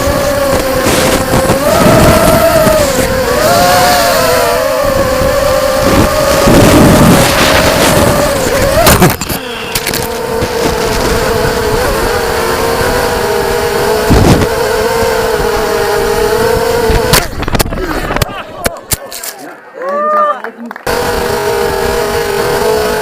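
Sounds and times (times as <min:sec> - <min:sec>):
quadcopter motors whining: 0:00.0 - 0:18.4, 0:20.8 - 0:23.0.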